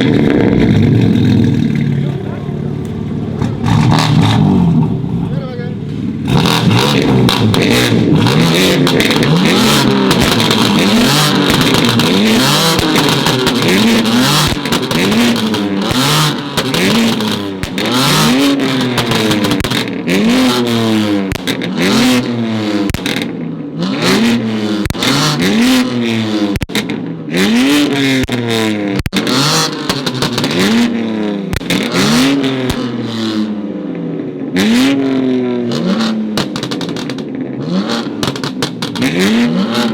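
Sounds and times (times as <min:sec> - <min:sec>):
sharp exhaust pops: 0:00.0 - 0:05.1, 0:05.8 - 0:23.4, 0:24.2 - 0:33.3, 0:35.7 - 0:39.9
sports car engine revving: 0:00.0 - 0:39.9.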